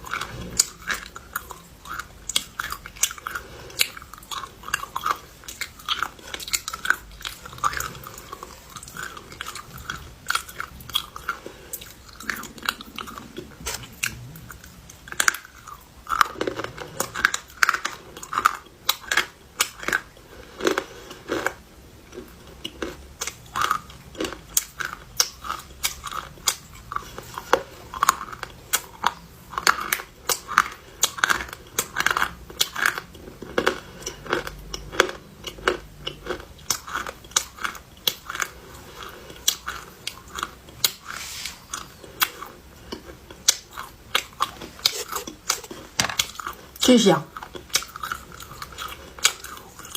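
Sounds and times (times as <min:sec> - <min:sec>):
person chewing clay crunches: 0:00.0 - 0:49.9.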